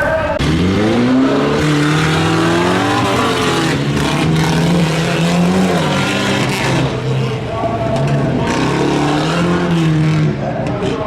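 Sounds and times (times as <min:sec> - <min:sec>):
pickup truck engine revving: 0:00.0 - 0:11.0.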